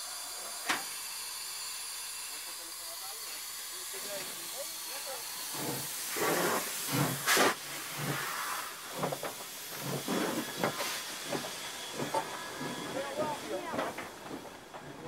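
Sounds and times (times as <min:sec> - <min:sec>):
steam hissing: 0:00.0 - 0:14.8
steam locomotive exhaust chuffs: 0:00.0 - 0:15.0.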